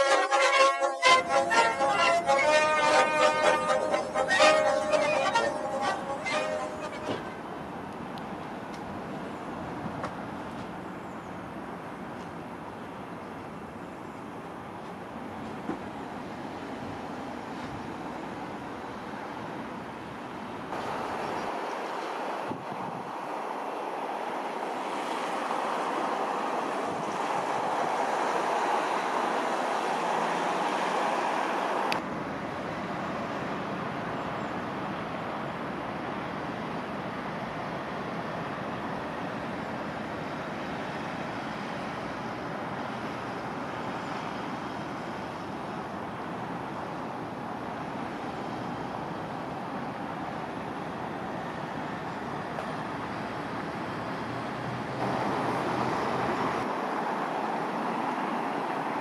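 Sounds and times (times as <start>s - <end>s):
distant road traffic: 0.0s - 59.0s
wind: 0.0s - 59.0s.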